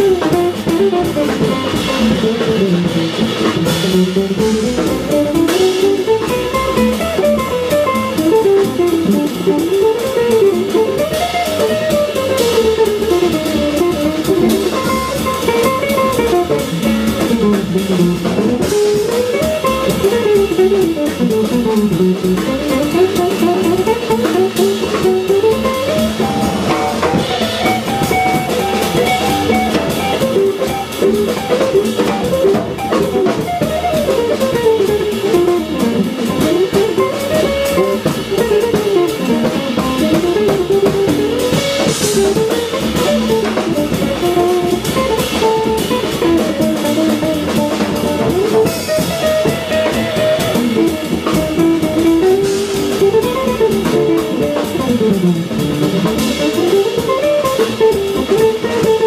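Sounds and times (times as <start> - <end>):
jazz band playing: 0.0 - 59.0.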